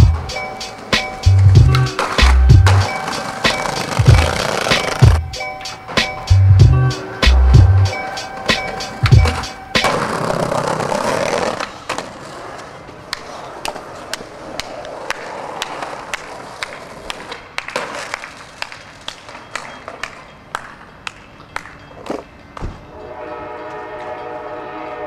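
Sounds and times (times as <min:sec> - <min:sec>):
skateboard wheels rolling on pavement: 0:00.0 - 0:23.0.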